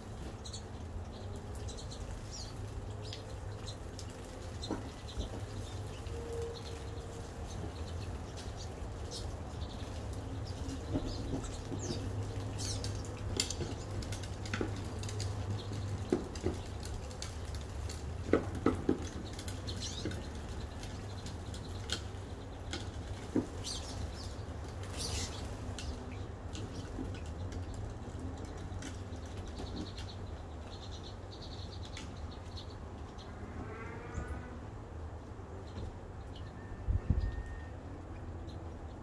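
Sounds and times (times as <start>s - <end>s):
small birds chirping: 0.0s - 34.4s, 35.5s - 39.0s.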